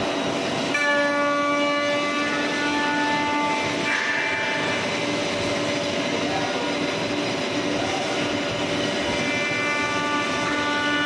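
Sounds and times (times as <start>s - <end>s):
cutter high whine: 0.0s - 11.0s.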